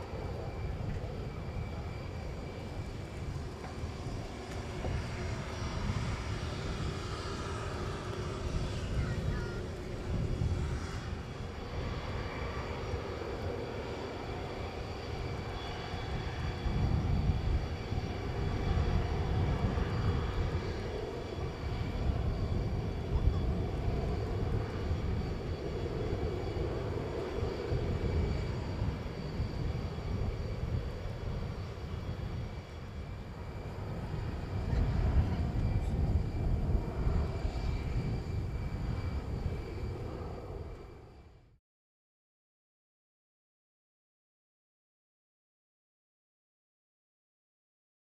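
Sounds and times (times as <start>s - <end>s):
jet engines whining: 0.0s - 41.4s.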